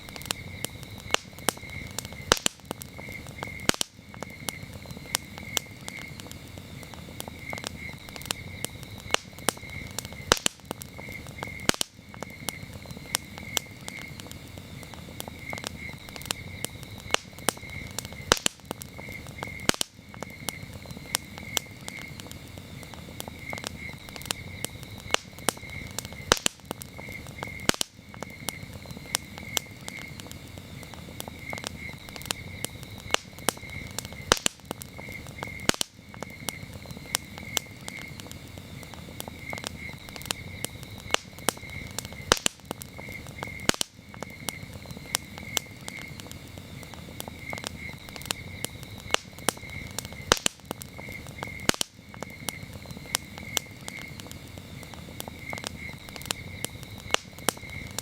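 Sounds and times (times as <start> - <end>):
campfire crackling and popping: 0.0 - 58.0
crickets chirping: 0.0 - 58.0.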